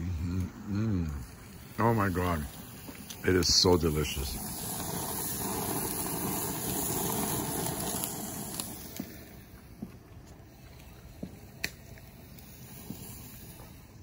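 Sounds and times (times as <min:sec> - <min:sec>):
octopus sizzling on a grill: 0:00.0 - 0:14.0.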